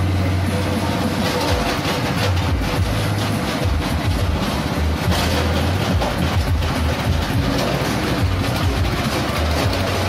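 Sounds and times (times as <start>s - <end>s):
husk grinder crackling rattle: 1.1s - 10.0s.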